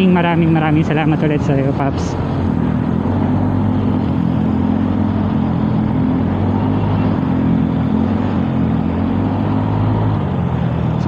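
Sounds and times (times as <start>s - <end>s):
motor scooter engine running: 0.0s - 11.0s
road noise: 0.0s - 11.0s.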